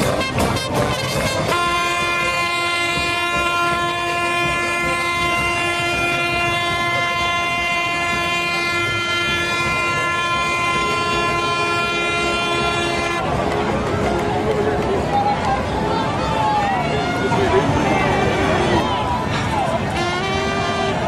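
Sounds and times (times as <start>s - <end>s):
boat horn blast: 0.0s - 13.5s, 16.8s - 21.0s.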